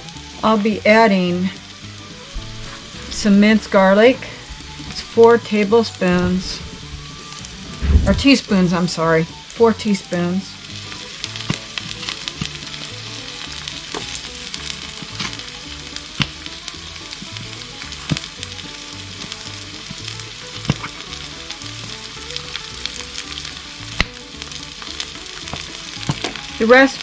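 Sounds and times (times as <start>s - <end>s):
onions sizzling in a pan: 0.0s - 27.0s.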